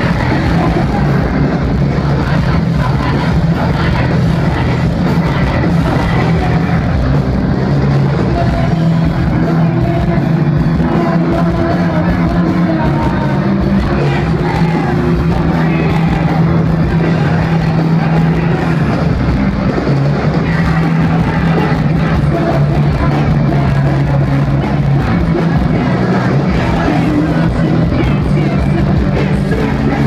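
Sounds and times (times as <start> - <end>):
live rock band playing loud: 0.0 - 30.0.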